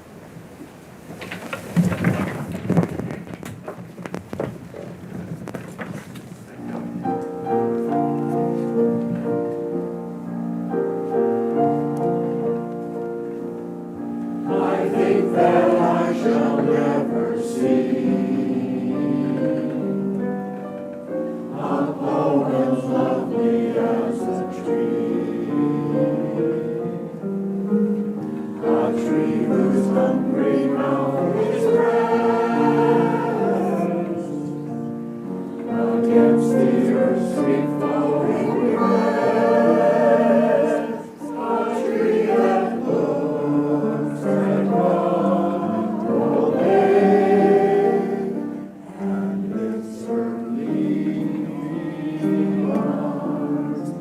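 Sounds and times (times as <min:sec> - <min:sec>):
choir singing in harmony: 0:07.0 - 0:54.0.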